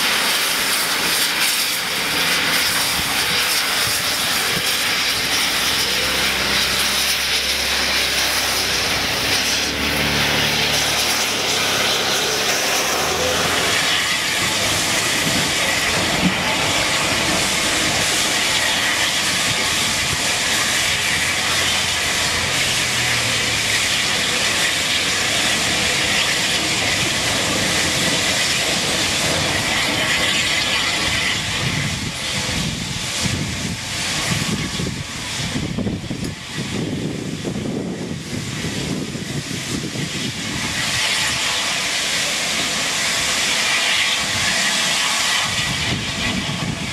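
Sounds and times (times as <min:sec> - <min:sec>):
steam hissing: 0:00.0 - 0:46.9
steam locomotive pulling out: 0:00.0 - 0:46.9.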